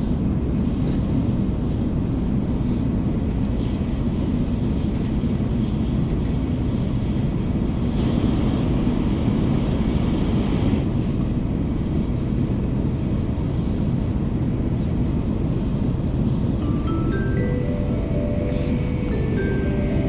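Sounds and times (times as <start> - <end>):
train cabin rumble: 0.0 - 20.0.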